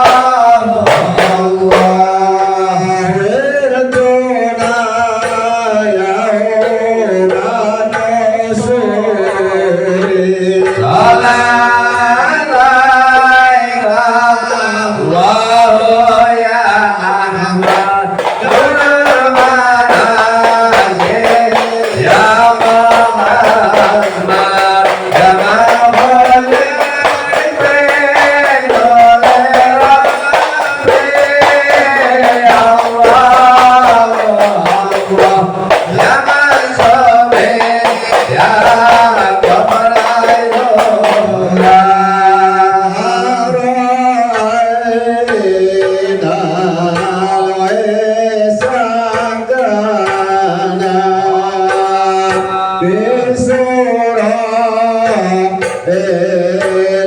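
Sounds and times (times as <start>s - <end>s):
man singing devotional song: 0.0s - 57.0s
steady drum percussion: 0.0s - 57.0s.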